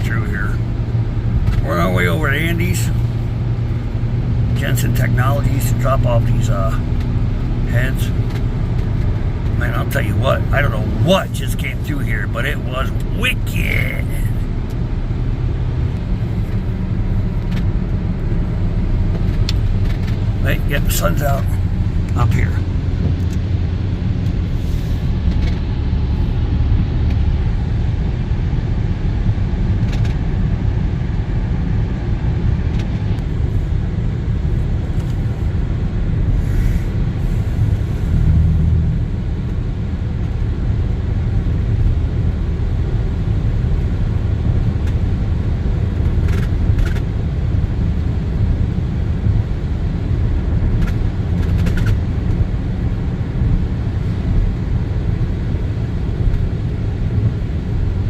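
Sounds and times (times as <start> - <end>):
vehicle road and engine rumble: 0.0 - 58.0.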